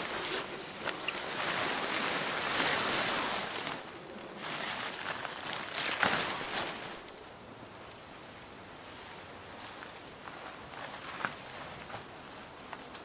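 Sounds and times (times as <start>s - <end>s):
tent fabric rustling: 0.0s - 7.3s, 8.8s - 13.0s.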